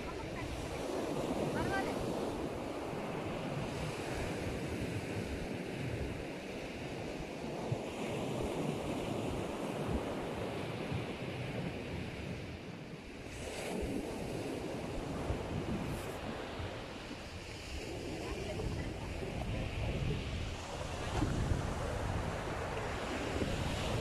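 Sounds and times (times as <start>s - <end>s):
sea waves washing onto beach: 0.0s - 24.0s
wind rumbling on microphone: 0.0s - 24.0s.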